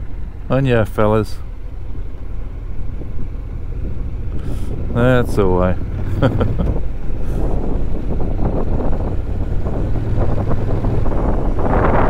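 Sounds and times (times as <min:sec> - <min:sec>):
motorcycle engine humming: 0:00.0 - 0:12.0
wind and road noise: 0:00.0 - 0:12.0.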